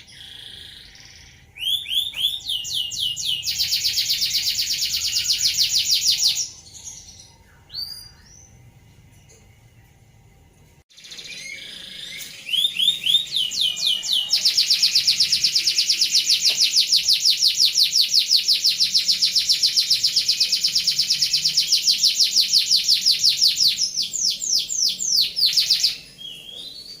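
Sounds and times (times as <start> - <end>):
canary singing a rolling trill: 0.0 - 9.5, 10.9 - 27.0.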